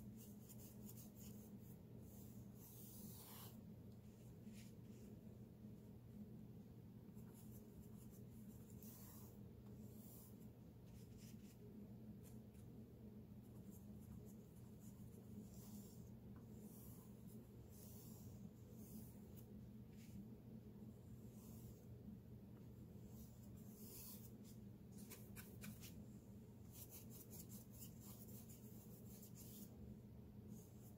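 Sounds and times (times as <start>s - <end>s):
paintbrush scratchy strokes: 0.0s - 5.3s, 7.1s - 12.6s, 13.3s - 22.1s, 22.8s - 26.0s, 26.6s - 30.9s
low room hum: 0.0s - 30.9s.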